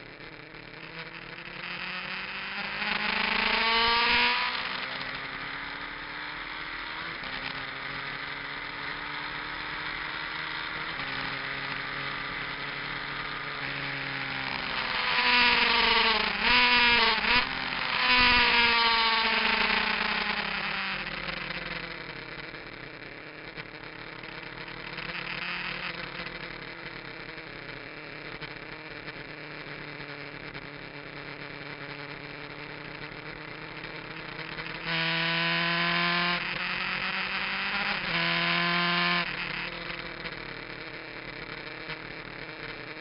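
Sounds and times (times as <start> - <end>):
motorcycle engine at speed: 0.0 - 43.0.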